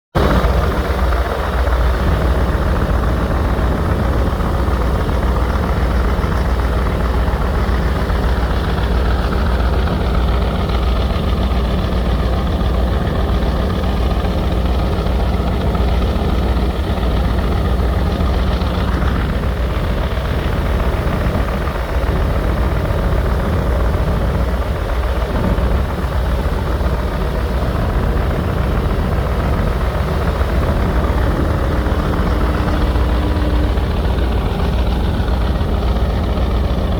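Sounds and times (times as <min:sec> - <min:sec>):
boat engine rumbling: 0:00.1 - 0:36.9.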